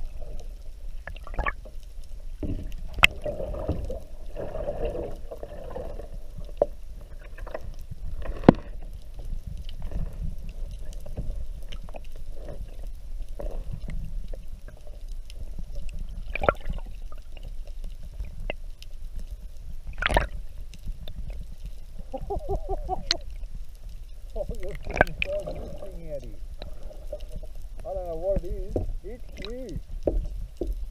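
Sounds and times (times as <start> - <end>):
underwater rumble of water: 0.0 - 30.9.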